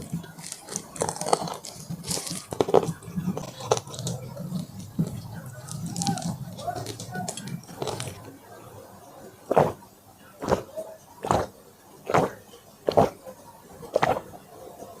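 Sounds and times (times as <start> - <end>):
chewing crunchy food: 0.0 - 8.4, 9.5 - 9.8, 10.4 - 14.4.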